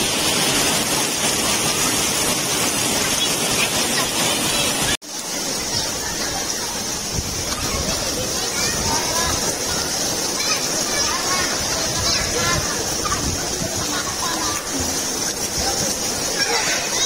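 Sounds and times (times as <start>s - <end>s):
heavy rain on pool water: 0.0s - 17.0s.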